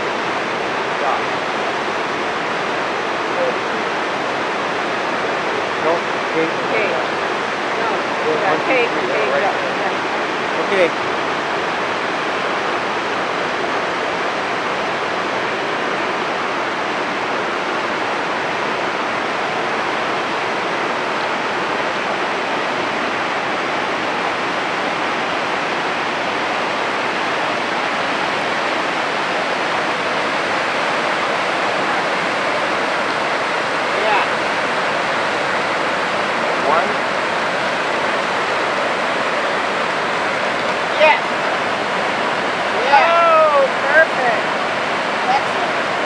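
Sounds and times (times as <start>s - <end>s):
whitewater rushing: 0.0s - 46.0s.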